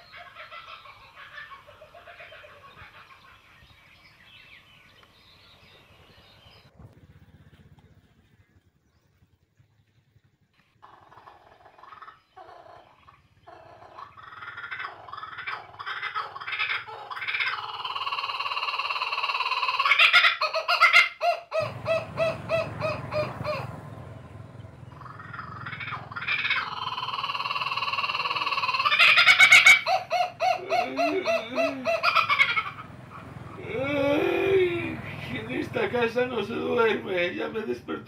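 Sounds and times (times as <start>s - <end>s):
monkey calls: 0.0s - 3.6s, 10.8s - 37.8s.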